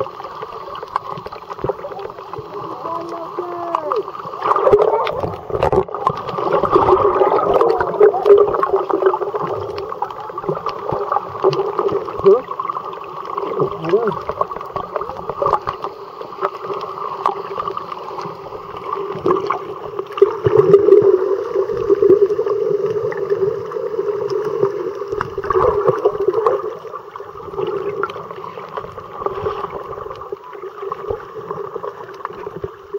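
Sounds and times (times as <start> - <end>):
muffled underwater water rushing: 0.0 - 32.9.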